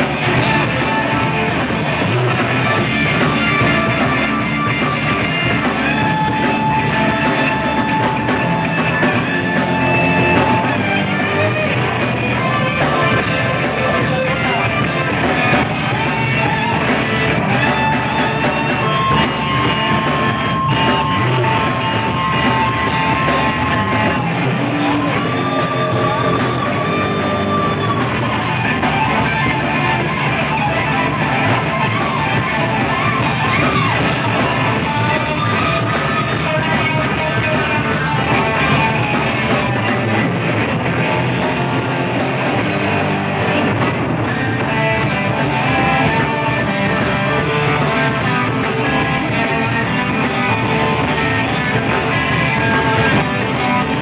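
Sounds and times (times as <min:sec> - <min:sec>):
blues-rock band playing: 0:00.0 - 0:54.0
guitar lead with bending notes: 0:00.0 - 0:54.0
steady drum beat: 0:00.0 - 0:54.0.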